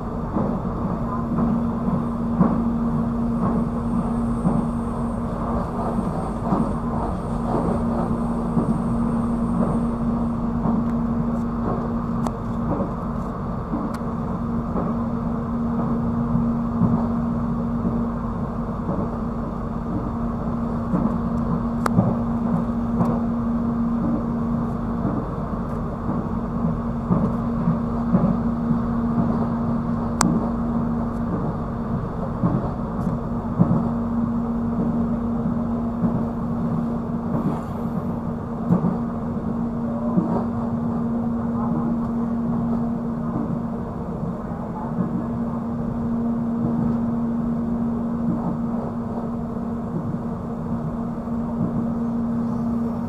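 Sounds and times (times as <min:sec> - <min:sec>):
train rumble inside carriage: 0:00.0 - 0:53.0.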